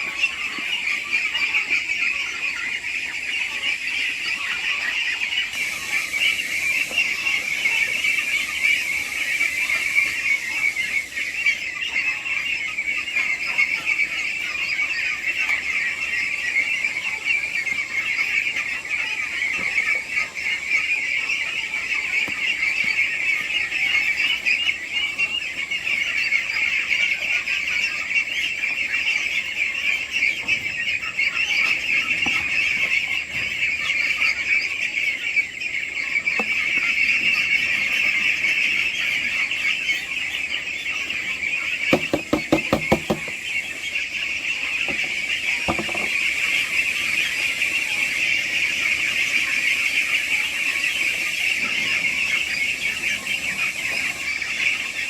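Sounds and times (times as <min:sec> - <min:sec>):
chickens calling: 0:00.0 - 0:55.0.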